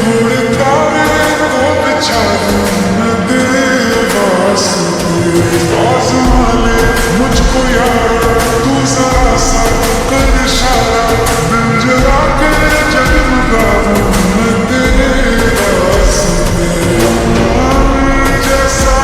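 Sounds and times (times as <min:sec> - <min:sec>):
deep bass beat: 0:00.0 - 0:19.0
love song ringtone melody: 0:00.0 - 0:19.0.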